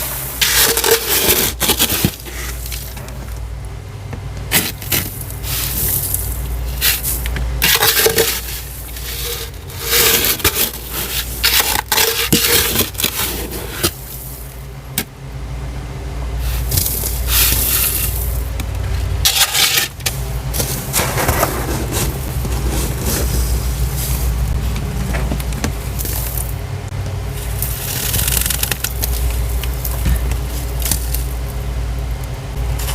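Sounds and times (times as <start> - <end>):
scraping frost off freezer walls: 0.0 - 3.4, 4.5 - 14.7, 16.4 - 26.6, 27.3 - 31.8, 32.5 - 32.9
low hum: 0.0 - 32.9.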